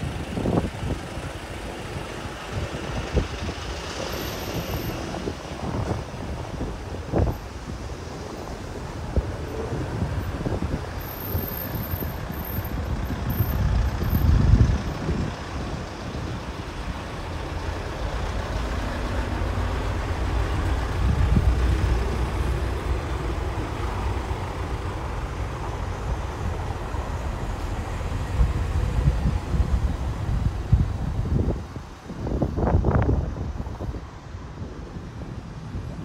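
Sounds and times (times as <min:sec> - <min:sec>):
low street rumble: 0:00.0 - 0:36.0.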